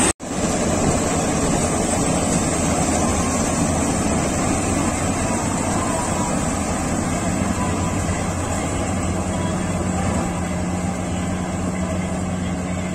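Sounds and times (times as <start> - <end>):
combine harvester running: 0.0 - 12.9
low hum: 0.0 - 12.9.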